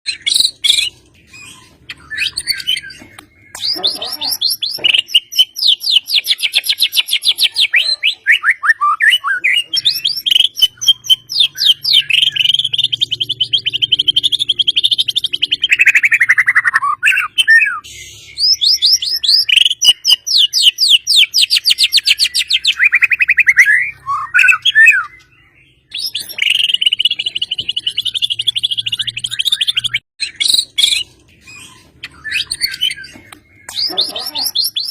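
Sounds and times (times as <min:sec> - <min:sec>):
bird singing fast trills: 0:00.1 - 0:34.9.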